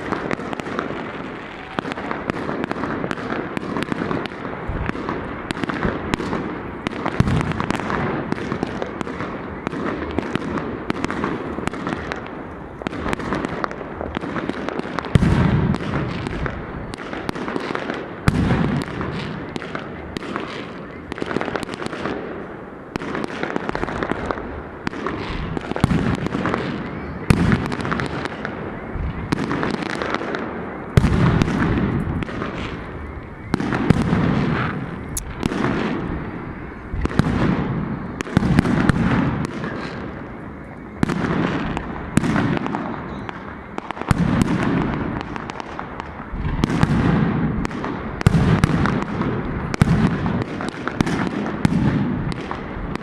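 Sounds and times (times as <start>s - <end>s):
fireworks bangs: 0.0s - 53.0s
fireworks crackle: 0.0s - 53.0s
fireworks rumbling bursts: 0.0s - 53.0s.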